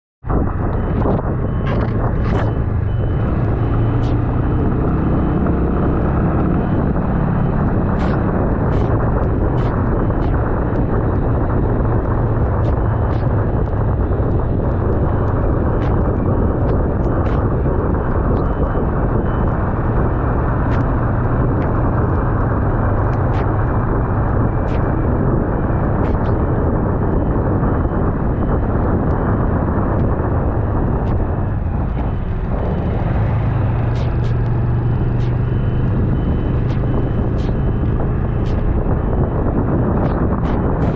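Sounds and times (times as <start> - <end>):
wind rushing over microphone: 0.2 - 40.9
motorcycle engine running: 0.6 - 27.0, 28.2 - 40.9.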